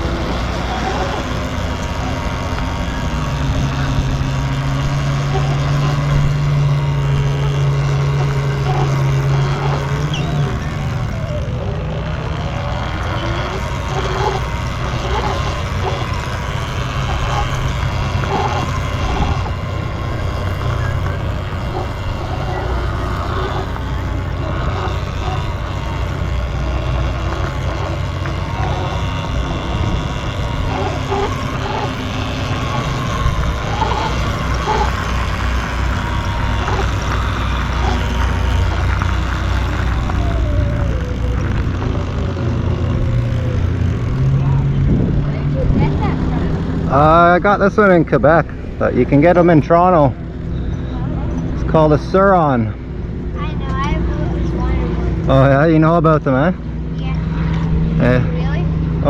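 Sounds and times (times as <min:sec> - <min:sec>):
low hum: 0:00.0 - 0:59.0
vehicle rumble: 0:00.0 - 0:59.0.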